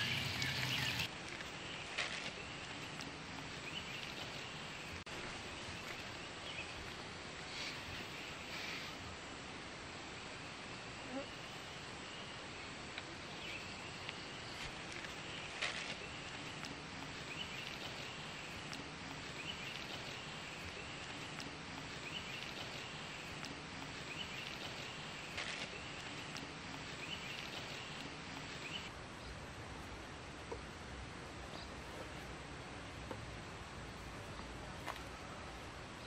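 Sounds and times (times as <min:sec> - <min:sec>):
steady forest hiss: 0:00.0 - 0:36.0.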